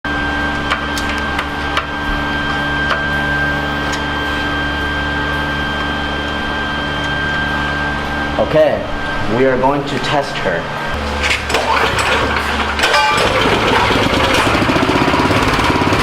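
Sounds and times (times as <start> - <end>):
steady machine hum: 0.0 - 16.0
constant high whine: 0.1 - 16.0.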